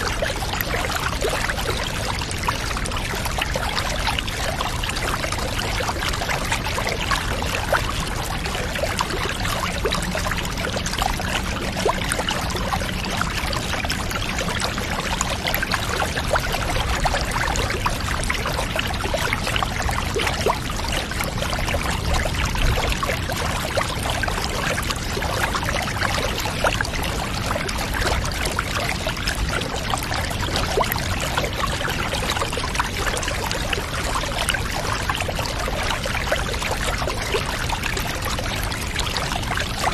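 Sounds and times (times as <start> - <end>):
water pouring into a bath: 0.0 - 39.9.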